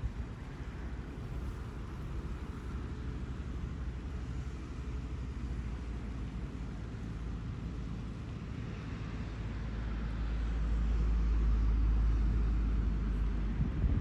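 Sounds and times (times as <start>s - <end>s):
low rumble with hiss: 0.0s - 14.0s.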